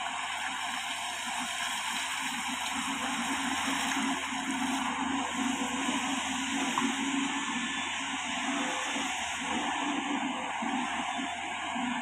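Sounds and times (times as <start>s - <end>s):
excavator diesel engine and hydraulics: 0.0s - 12.0s.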